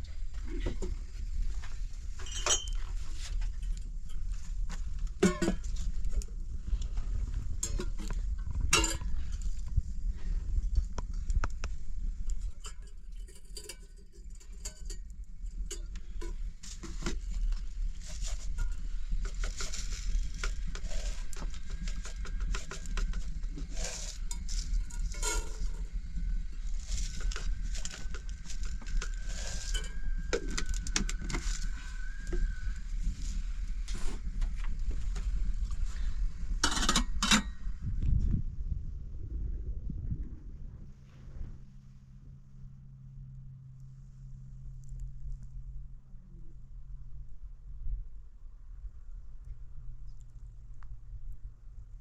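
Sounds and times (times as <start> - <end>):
low rumble: 0.0 - 52.0.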